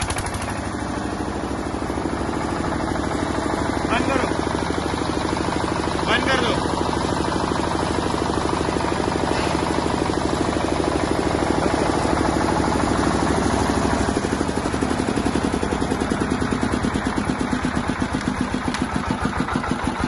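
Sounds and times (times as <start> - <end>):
diesel generator engine running: 0.0 - 20.0.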